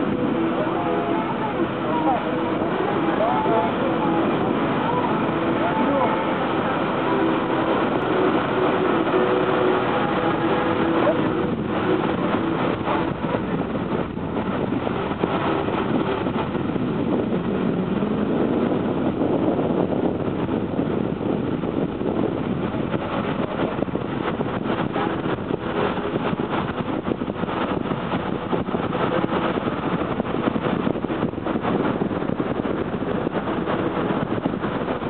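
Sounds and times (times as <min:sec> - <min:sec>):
ferry engine rumble: 0:00.0 - 0:35.0
rushing water: 0:00.0 - 0:35.0.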